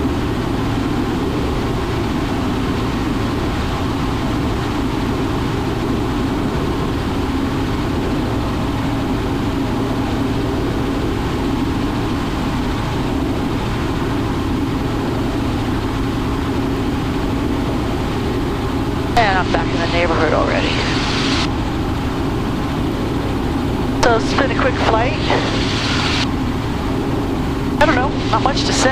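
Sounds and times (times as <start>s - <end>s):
helicopter engine and rotor drone: 0.0s - 28.9s.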